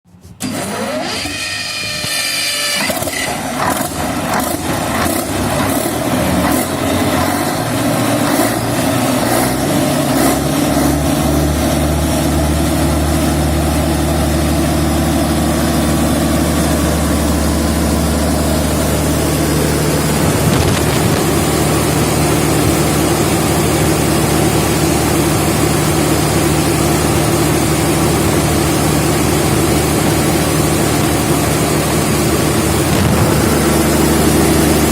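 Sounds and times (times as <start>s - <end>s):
diesel generator starting up: 0.1s - 34.9s.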